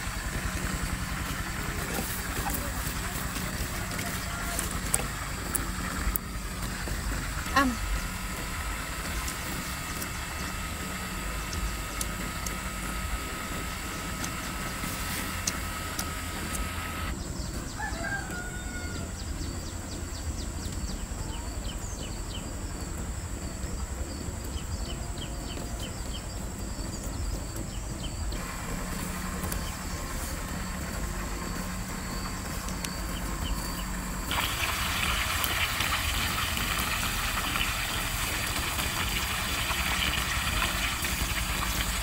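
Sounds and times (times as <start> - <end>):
birds calling: 0.0 - 42.0.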